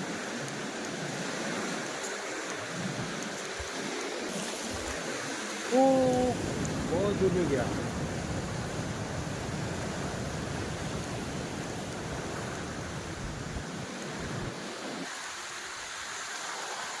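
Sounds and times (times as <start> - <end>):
steady rushing hiss: 0.0 - 17.0
wind buffeting microphone: 1.0 - 15.1.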